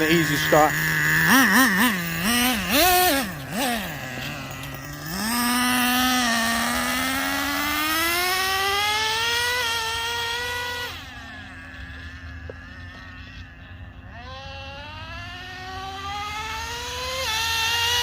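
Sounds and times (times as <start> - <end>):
rc truck engine buzzing: 0.0 - 18.0.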